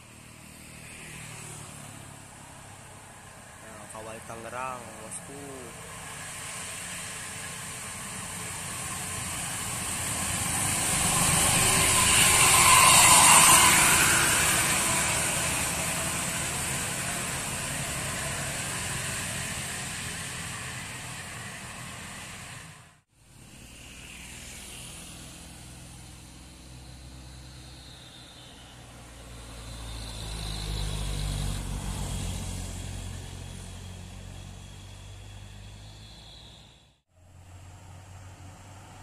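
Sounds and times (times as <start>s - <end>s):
motorcycles: 0.0s - 36.7s
bus engine and tyre noise: 0.0s - 39.0s
quieter traffic: 0.0s - 39.0s.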